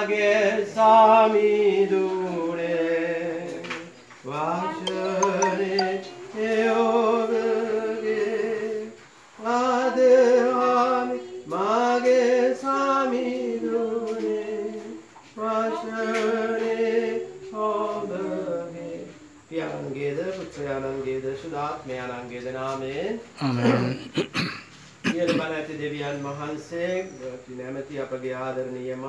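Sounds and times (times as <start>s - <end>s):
group singing a hymn: 0.0s - 24.0s.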